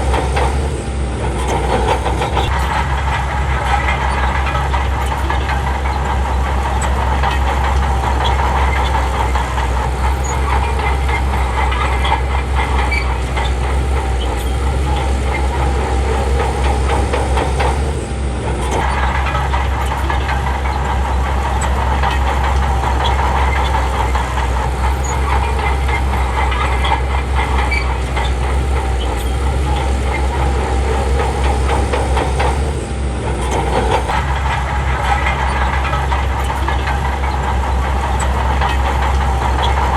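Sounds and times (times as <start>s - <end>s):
bulldozer diesel engine: 0.0s - 39.9s
metallic clatter: 0.0s - 39.9s.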